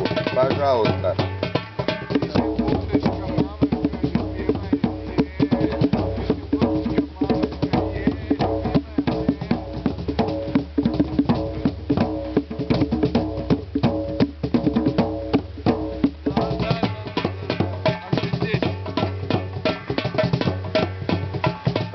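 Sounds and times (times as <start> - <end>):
hand drums fast rhythm: 0.0 - 21.9.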